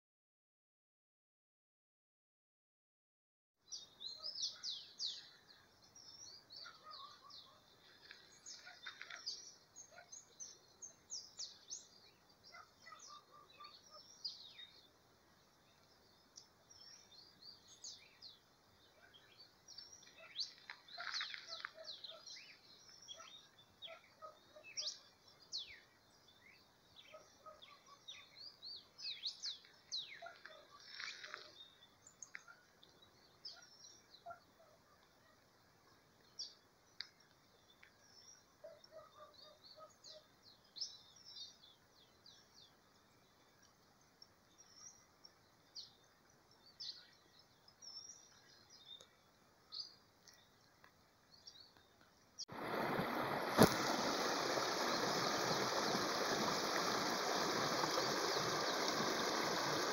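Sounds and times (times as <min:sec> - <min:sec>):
small birds chirping: 0:03.6 - 0:52.5, 0:53.5 - 0:59.9.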